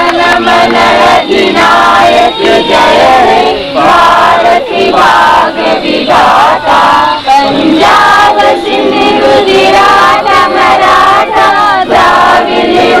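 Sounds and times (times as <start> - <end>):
group singing in chorus: 0.0 - 13.0.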